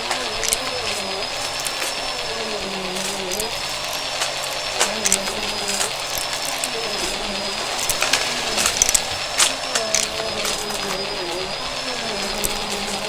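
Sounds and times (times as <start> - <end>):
sharp clicks: 0.0 - 13.0
vacuum cleaner running: 0.0 - 13.0.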